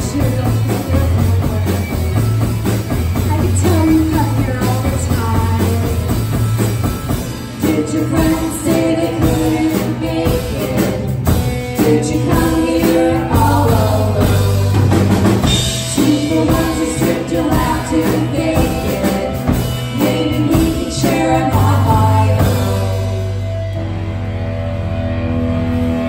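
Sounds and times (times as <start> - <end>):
sung vocals: 0.0 - 2.4, 3.2 - 6.4, 7.4 - 23.8
live rock band playing: 0.0 - 26.0.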